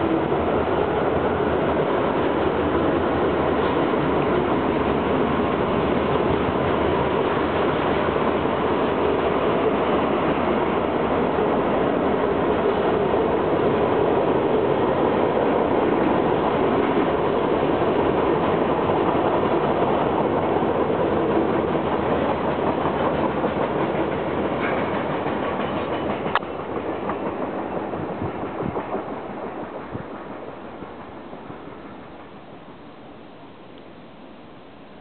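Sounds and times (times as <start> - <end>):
freight train cars rolling: 0.0 - 35.0.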